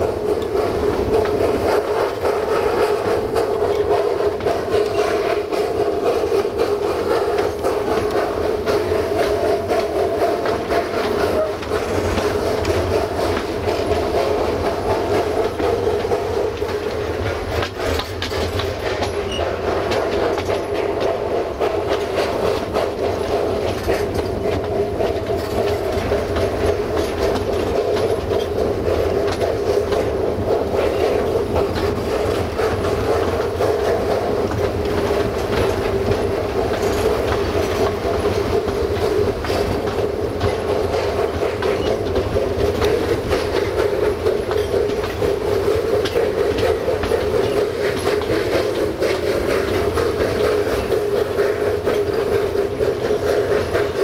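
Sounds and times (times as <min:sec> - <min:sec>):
rail joints clicking: 0:00.0 - 0:54.0
train wheels rumbling on track: 0:00.0 - 0:54.0.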